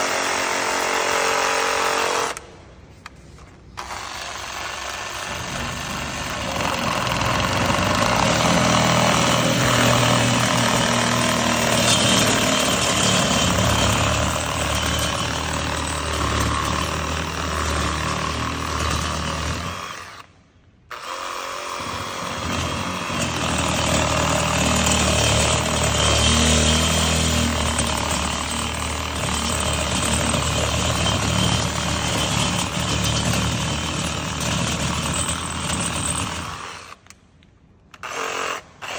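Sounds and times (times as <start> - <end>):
reciprocating saw sawing: 3.8 - 20.3, 20.9 - 37.0.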